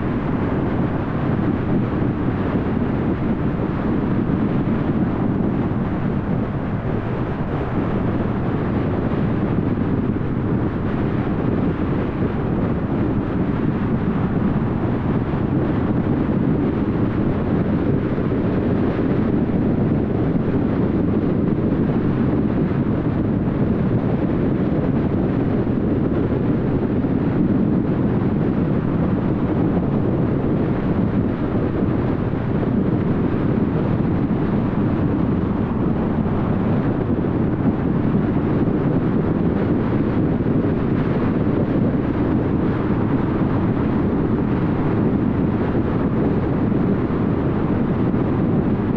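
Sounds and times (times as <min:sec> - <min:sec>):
low engine drone: 0:00.0 - 0:48.9
wind noise: 0:00.0 - 0:48.9.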